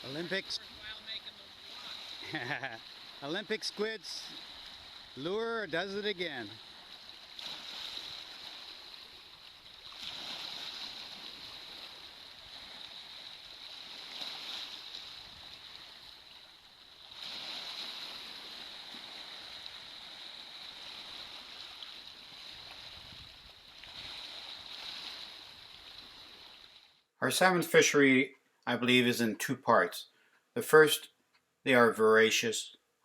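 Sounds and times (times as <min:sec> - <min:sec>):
waves washing on shore: 0:00.0 - 0:26.9.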